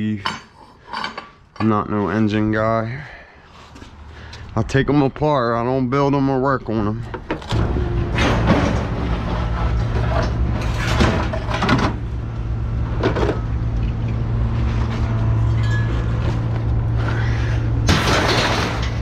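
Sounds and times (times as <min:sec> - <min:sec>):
engine humming: 0:02.9 - 0:19.0.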